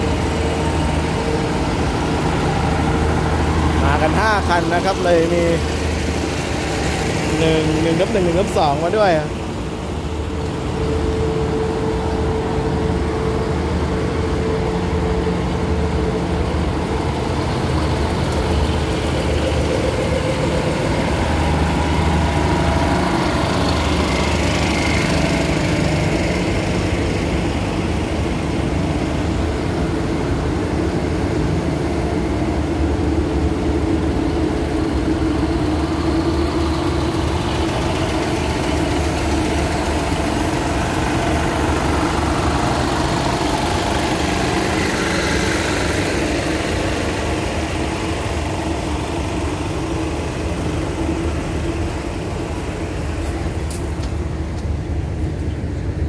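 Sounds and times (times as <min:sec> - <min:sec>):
diesel train engines idling: 0:00.0 - 0:56.0.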